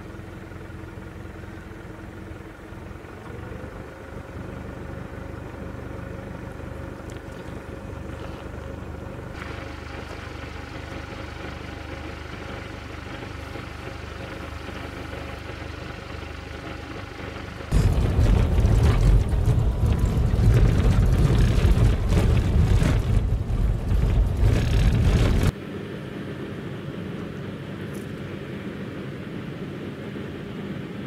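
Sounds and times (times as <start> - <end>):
engine idling: 0.0 - 25.6.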